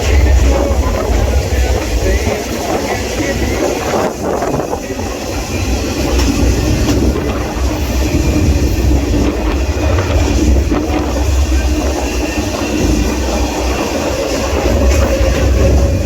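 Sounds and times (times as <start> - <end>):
freight train rolling on rails: 0.0 - 16.0.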